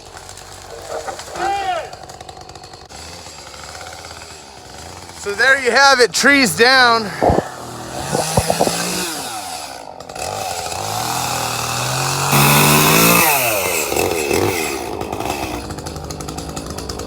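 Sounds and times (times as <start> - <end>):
chainsaw revving and idling: 0.0 - 17.0.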